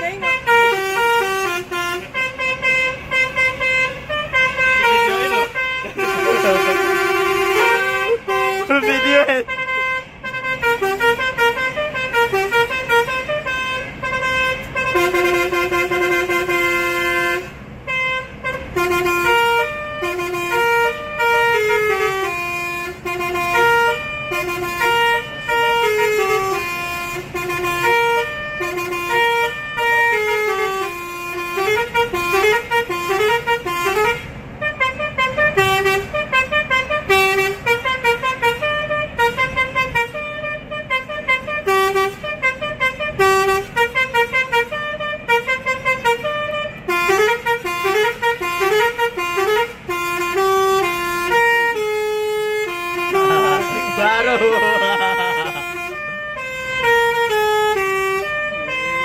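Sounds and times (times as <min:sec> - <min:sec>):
low rumble of engine and tyres: 0:00.0 - 0:59.0
musical air horn melody: 0:00.0 - 0:59.0.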